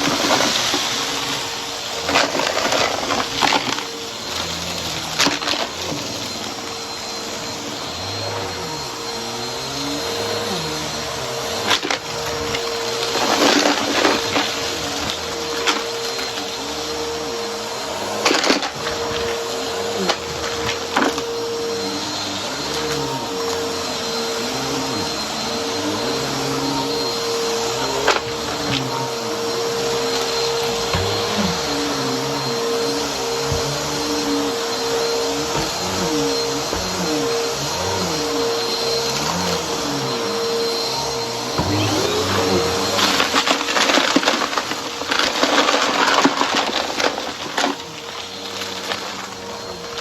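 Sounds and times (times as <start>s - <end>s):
brushroll crunching debris: 0.0s - 50.0s
vacuum cleaner motor whine: 0.0s - 50.0s.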